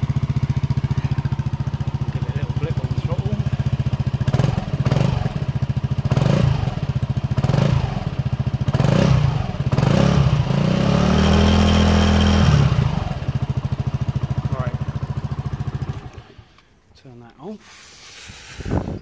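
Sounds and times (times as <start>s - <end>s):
scooter engine idling and revving: 0.0s - 16.8s.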